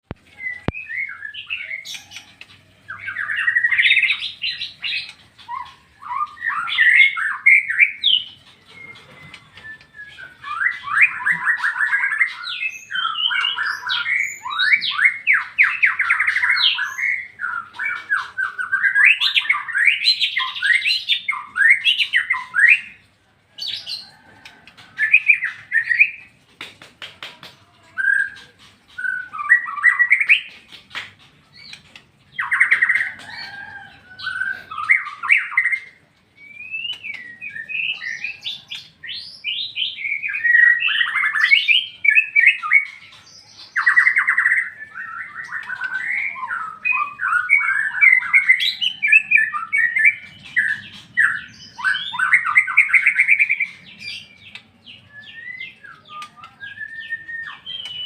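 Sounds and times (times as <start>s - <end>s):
bird singing whistled phrases: 0.3s - 2.2s, 2.9s - 23.0s, 28.0s - 30.5s, 32.4s - 58.0s.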